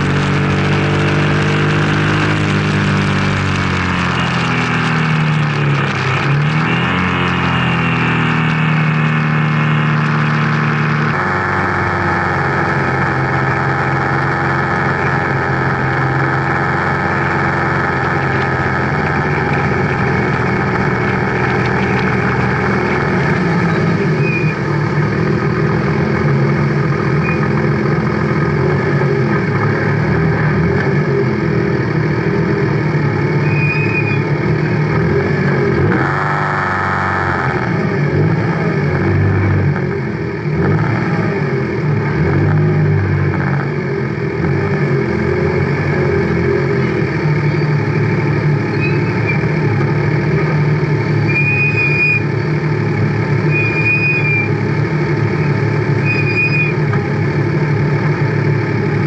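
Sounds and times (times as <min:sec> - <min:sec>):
race car engine idling: 0:00.0 - 0:40.7, 0:52.2 - 0:59.0.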